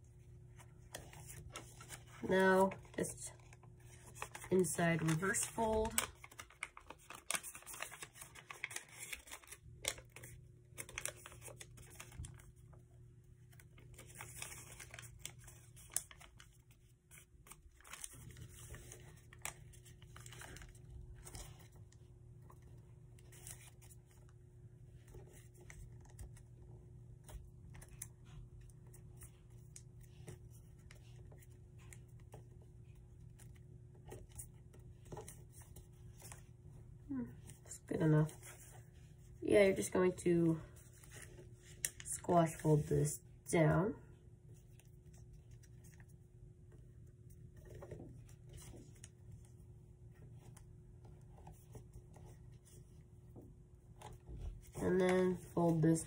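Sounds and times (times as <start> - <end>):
paper crinkling and crackling: 0.2 - 43.2, 44.4 - 56.0.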